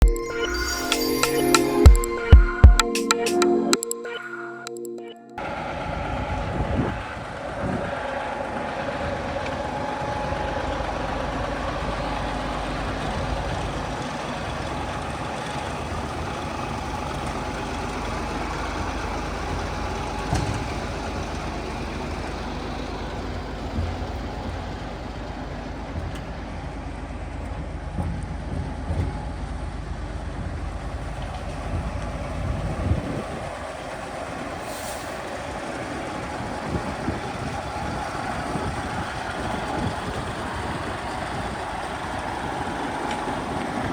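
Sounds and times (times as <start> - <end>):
diesel engine rumbling: 5.4 - 43.9.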